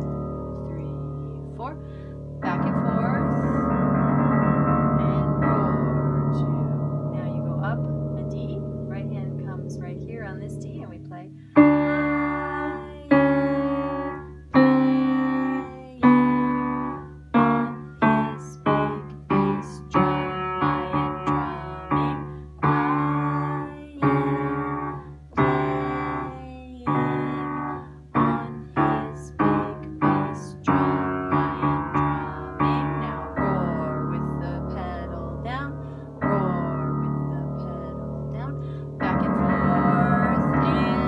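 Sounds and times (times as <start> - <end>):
upright piano played heavily: 0.0 - 41.0.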